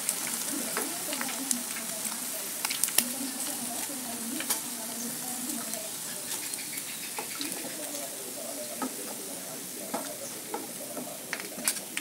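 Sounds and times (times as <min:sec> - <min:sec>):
oil sizzling in wok: 0:00.0 - 0:12.0.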